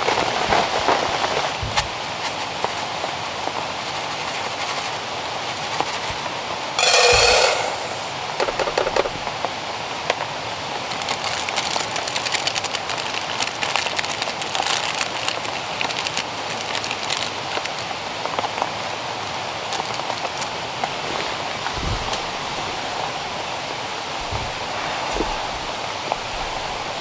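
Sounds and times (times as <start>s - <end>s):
raindrops striking close by: 0.0s - 6.6s, 8.2s - 27.0s
rain falling: 0.0s - 27.0s.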